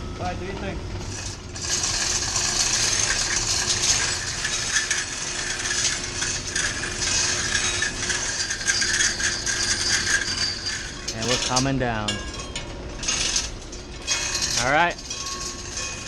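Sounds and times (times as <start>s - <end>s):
chain links rattling: 1.1s - 16.0s.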